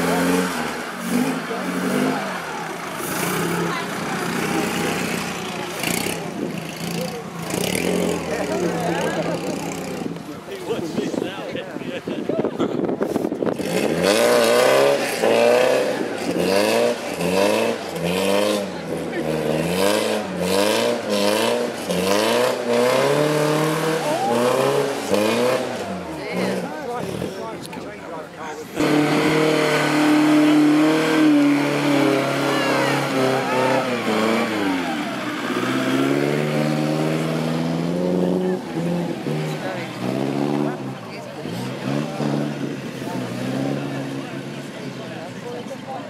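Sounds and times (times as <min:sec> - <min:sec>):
car engine revving: 0:00.0 - 0:11.3, 0:13.1 - 0:45.9.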